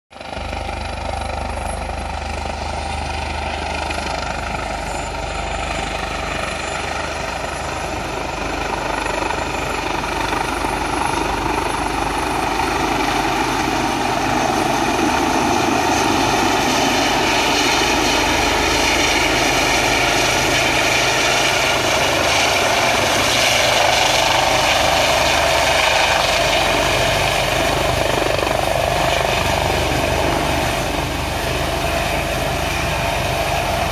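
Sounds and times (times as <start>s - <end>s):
helicopter rotor and turbine: 0.1s - 33.9s.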